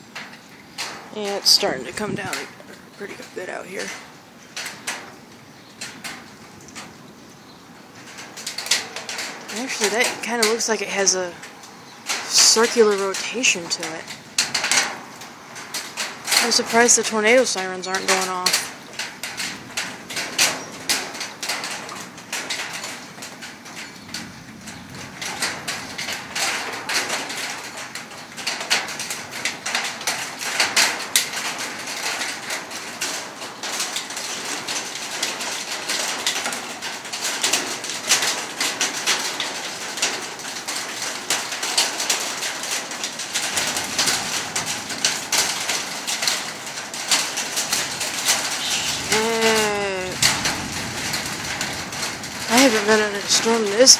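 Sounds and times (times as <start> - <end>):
heavy rain falling: 0.0 - 53.9
raindrops tapping hard surfaces: 0.0 - 53.9.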